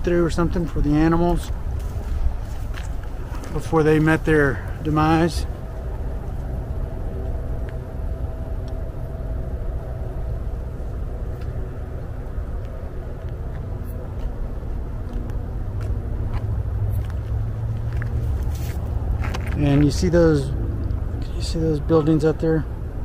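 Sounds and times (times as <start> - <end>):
distant traffic rumble: 0.0 - 23.0
faint engine hum: 0.0 - 23.0.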